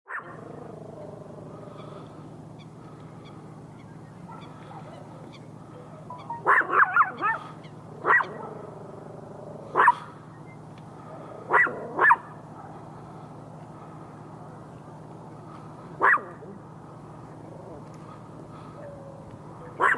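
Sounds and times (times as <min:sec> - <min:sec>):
steady low hum: 0:00.1 - 0:19.9.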